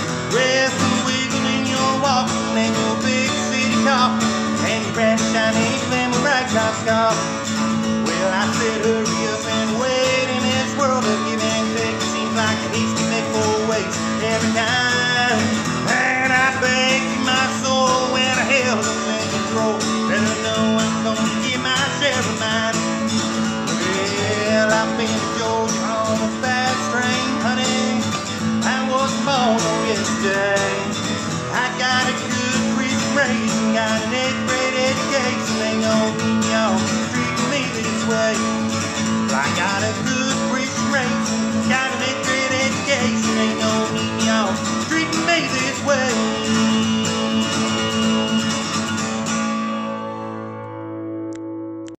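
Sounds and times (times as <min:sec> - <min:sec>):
acoustic guitar strummed and picked: 0:00.0 - 0:51.9.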